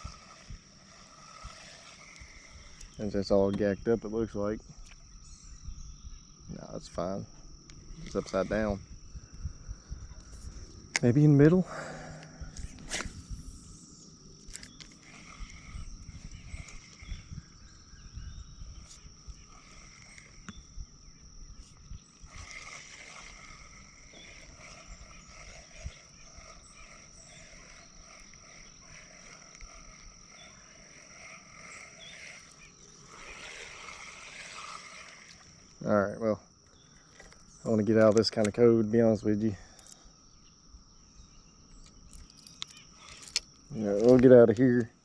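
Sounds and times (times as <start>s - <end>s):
frogs croaking in chorus: 0.0s - 44.2s.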